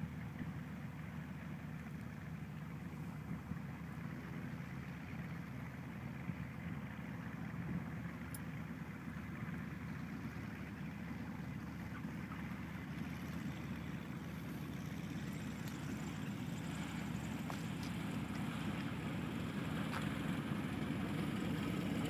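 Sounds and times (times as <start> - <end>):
light airplane engine running: 0.0 - 22.0.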